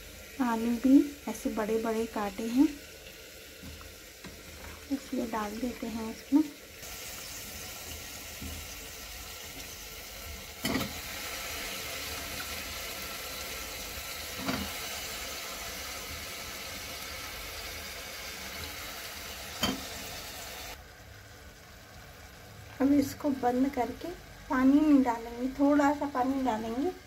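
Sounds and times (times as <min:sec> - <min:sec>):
oil sizzling in a pot: 0:00.0 - 0:27.0.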